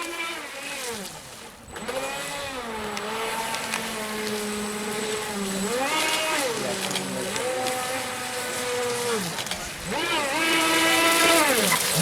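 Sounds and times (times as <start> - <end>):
model boat motor whining: 0.0 - 12.0.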